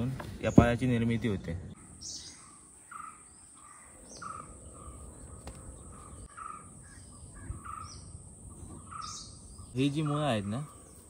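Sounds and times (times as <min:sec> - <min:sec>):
faint outdoor background noise: 0:00.0 - 0:11.0
bird calling: 0:01.6 - 0:11.0.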